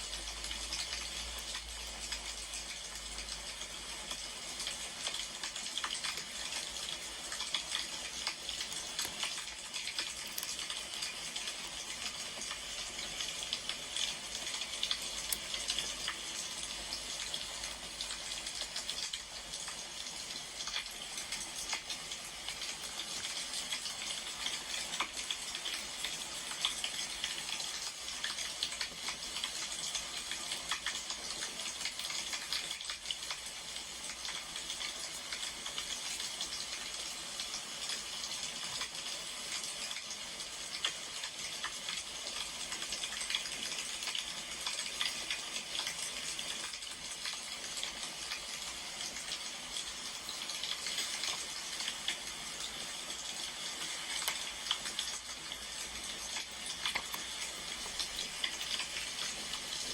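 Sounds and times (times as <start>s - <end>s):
wood fire crackling and hissing: 0.0s - 59.9s.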